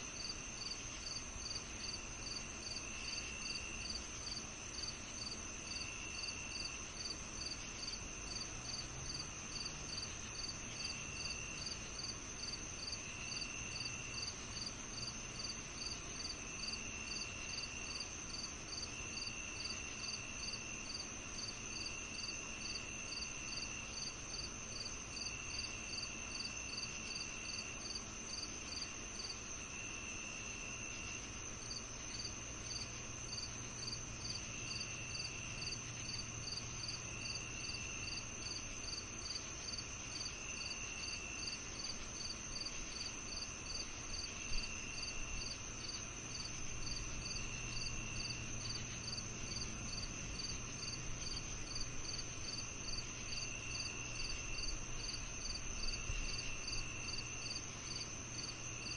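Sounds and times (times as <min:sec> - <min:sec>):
cricket chirping: 0:00.0 - 0:58.9
lower cricket trill: 0:00.0 - 0:58.9
high cricket trill: 0:00.2 - 0:58.9.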